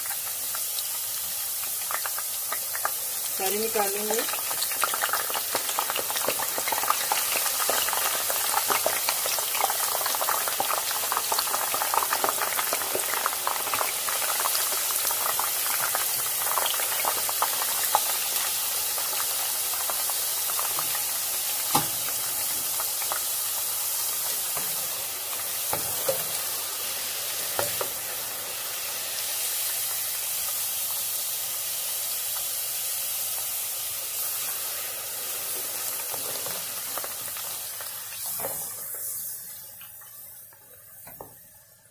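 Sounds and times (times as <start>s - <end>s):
potatoes sizzling in oil: 0.0s - 41.9s.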